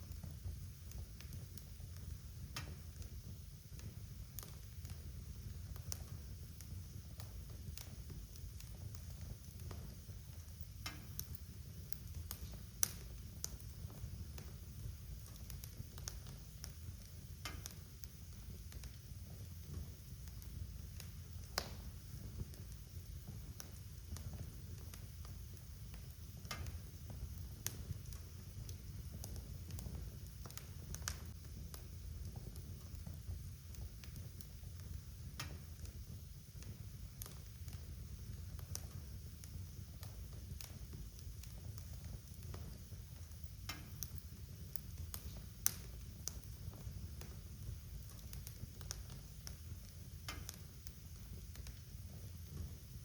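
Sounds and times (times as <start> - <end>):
fire pops and snaps: 0.0 - 53.0
fire rumbling: 0.0 - 53.0.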